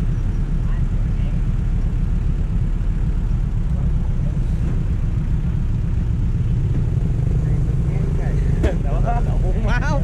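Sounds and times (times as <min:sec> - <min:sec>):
traffic: 0:00.0 - 0:10.0
vehicle rumble: 0:00.0 - 0:10.0.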